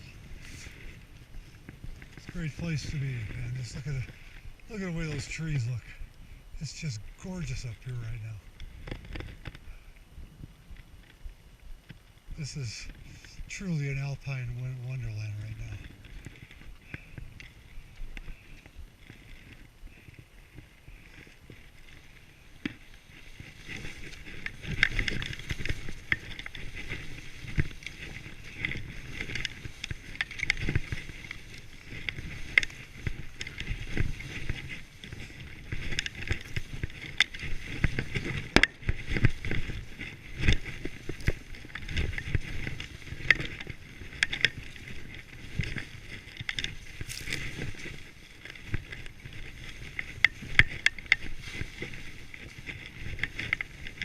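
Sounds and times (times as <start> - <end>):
skis swishing through snow: 0.0 - 5.9, 12.4 - 54.0.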